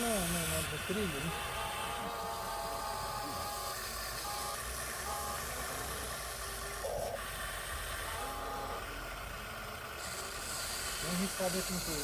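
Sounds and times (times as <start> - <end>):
model trucks on dirt hiss: 0.0 - 12.0
thin mechanical whine: 0.0 - 12.0.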